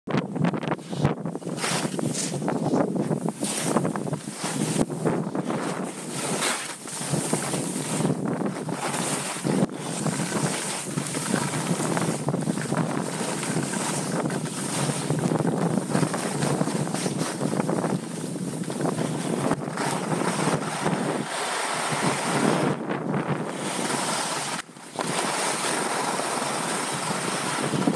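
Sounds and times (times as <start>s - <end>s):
wind rushing over microphone: 0.1s - 27.9s
skis scraping on snow: 0.7s - 27.9s.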